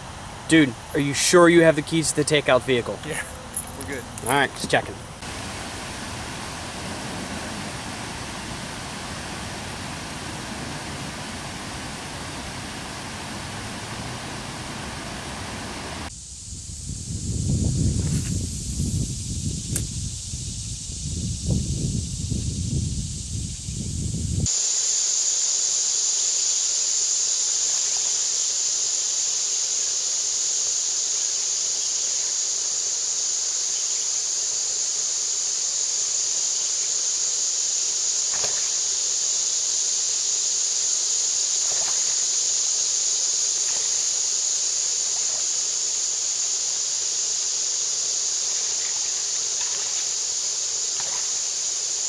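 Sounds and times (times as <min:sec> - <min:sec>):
insect chorus buzzing: 0:00.0 - 0:52.0.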